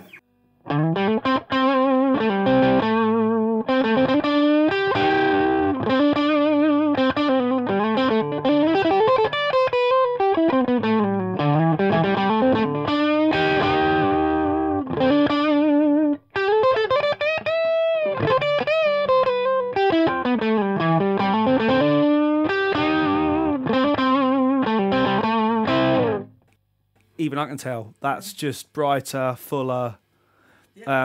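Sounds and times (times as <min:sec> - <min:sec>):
electric guitar noodling: 0:00.0 - 0:26.3.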